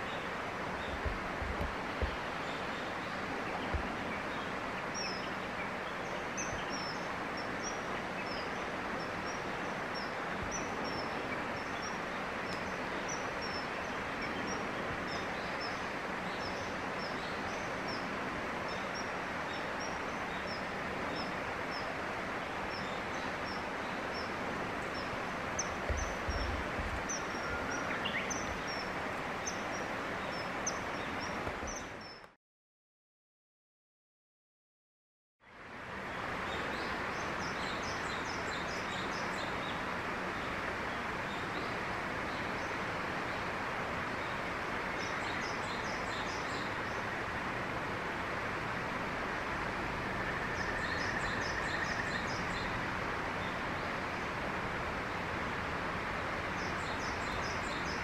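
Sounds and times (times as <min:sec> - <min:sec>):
outdoor background hiss: 0:00.0 - 0:32.4, 0:35.4 - 0:58.0.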